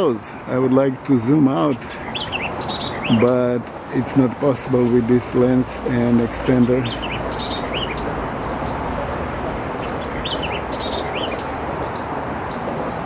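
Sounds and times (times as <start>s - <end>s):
highway traffic hum: 0.0s - 13.0s
small birds chirping: 0.0s - 13.0s.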